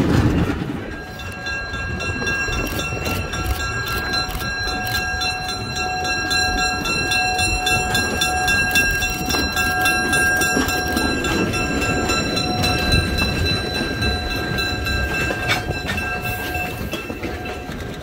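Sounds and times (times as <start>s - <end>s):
train rumbling on track: 0.0s - 18.0s
wheels clicking and knocking: 0.0s - 18.0s
high-pitched ringing tones: 0.8s - 17.9s.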